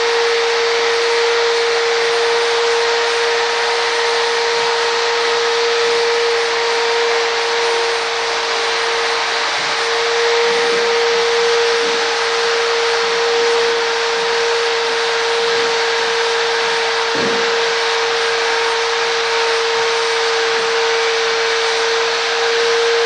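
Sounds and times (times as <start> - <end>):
mid-pitched hum: 0.0 - 23.0
steady whirring: 0.0 - 23.0.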